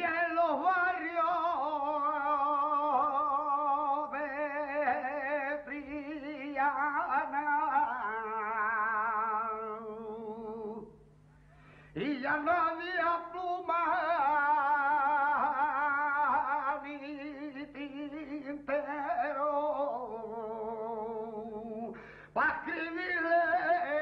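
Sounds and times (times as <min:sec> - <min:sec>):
man singing with heavy vibrato: 0:00.0 - 0:11.0, 0:11.9 - 0:24.0.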